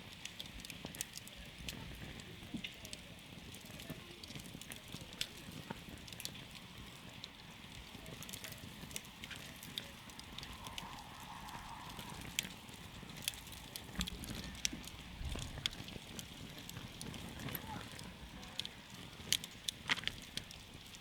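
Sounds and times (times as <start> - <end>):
campfire crackling and popping: 0.0 - 21.0
low rumble of burning: 0.0 - 21.0.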